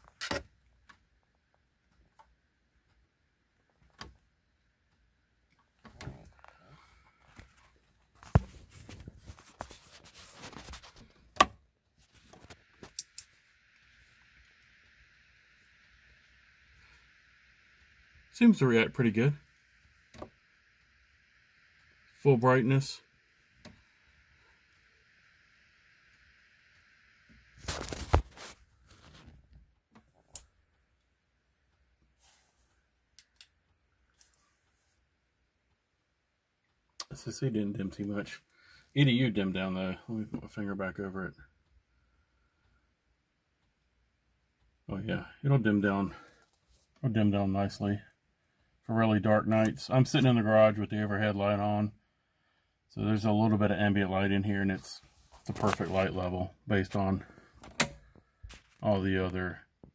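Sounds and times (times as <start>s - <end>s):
steady hiss: 0.0s - 36.0s, 36.8s - 59.9s
faint high hum: 1.1s - 59.8s.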